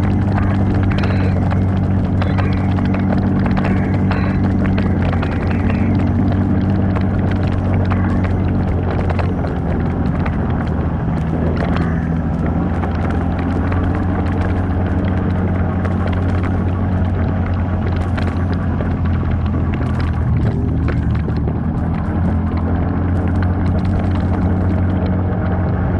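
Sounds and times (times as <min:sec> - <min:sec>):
clicks and knocks: 0:00.0 - 0:25.2
off-road vehicle engine: 0:00.0 - 0:25.9.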